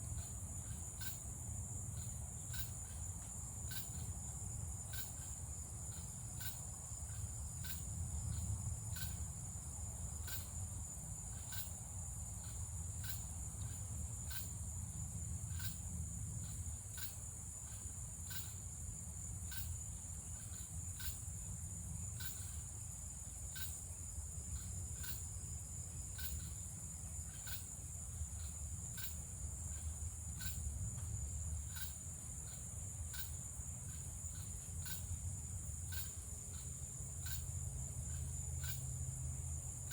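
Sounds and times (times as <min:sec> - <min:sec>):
crickets and cicadas trilling: 0:00.0 - 0:39.9
insect chirp: 0:00.0 - 0:39.9.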